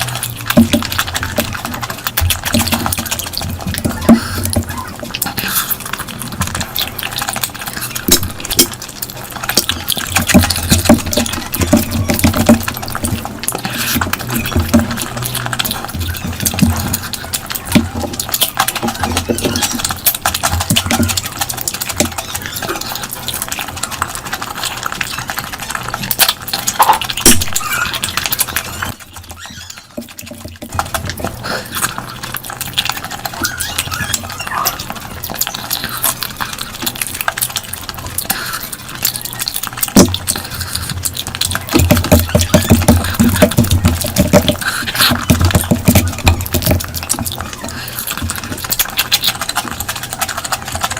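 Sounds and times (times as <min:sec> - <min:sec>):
wet chewing and smacking: 0:00.0 - 0:50.9.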